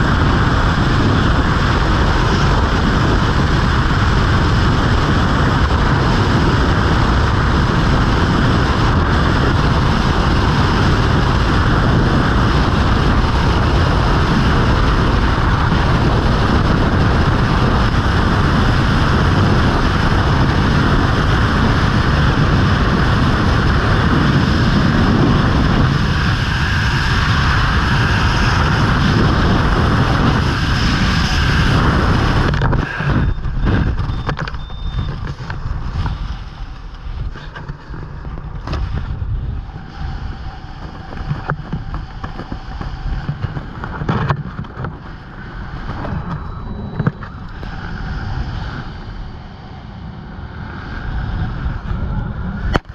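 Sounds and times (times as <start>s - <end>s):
wind noise on microphone: 0.0s - 52.9s.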